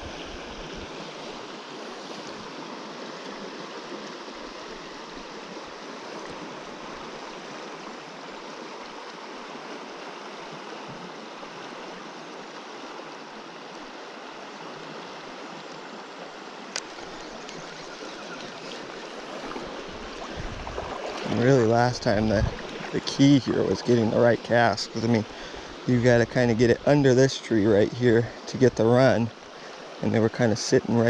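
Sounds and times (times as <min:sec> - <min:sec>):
river water rushing over stones: 0:00.0 - 0:31.0.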